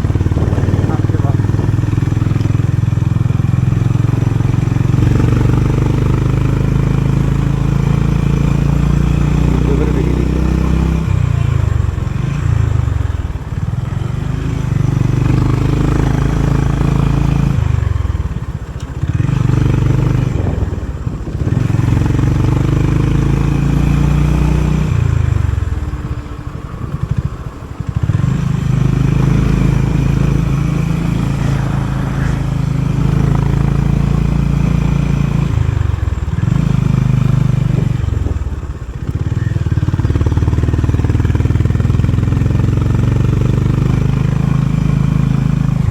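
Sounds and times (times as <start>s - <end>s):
motorcycle engine riding along: 0.0s - 45.9s.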